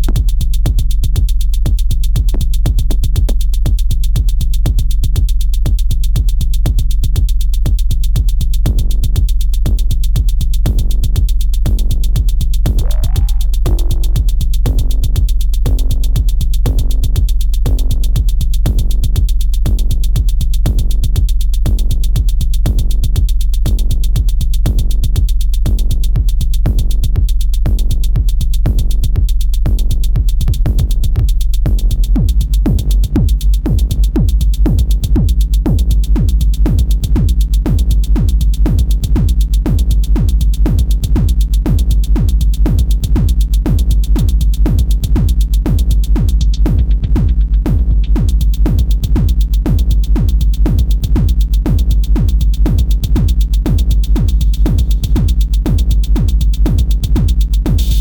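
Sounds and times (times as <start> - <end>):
deep bass: 0.0 - 58.0
fast electronic drum pattern: 0.0 - 58.0.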